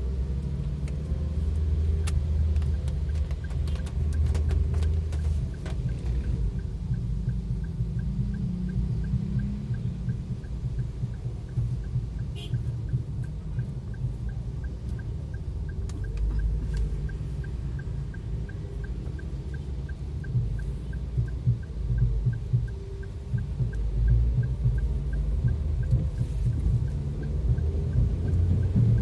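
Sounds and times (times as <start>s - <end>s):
faint steady ticking: 0.0s - 29.0s.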